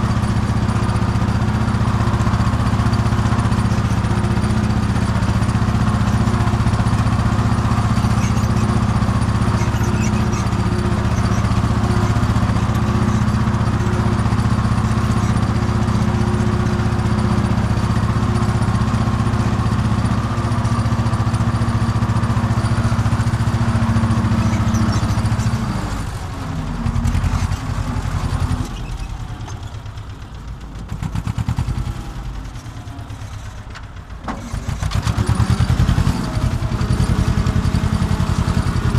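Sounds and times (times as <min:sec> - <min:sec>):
tractor diesel engine: 0:00.0 - 0:38.9.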